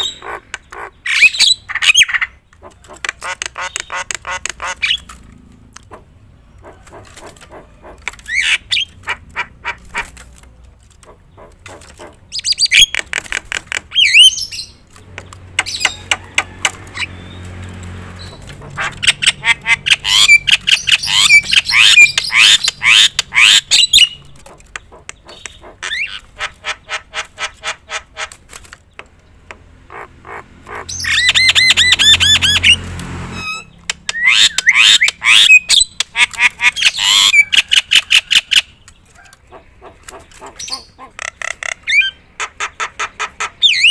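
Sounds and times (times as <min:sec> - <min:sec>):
bird singing clicks and squawks: 0:00.0 - 0:43.9.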